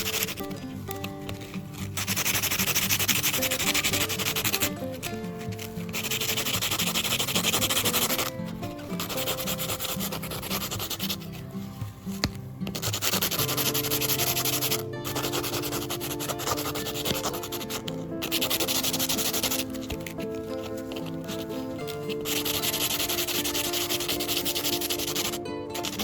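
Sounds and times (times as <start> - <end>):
background music: 0.0 - 26.0
rough abrasive sanding: 0.0 - 26.0.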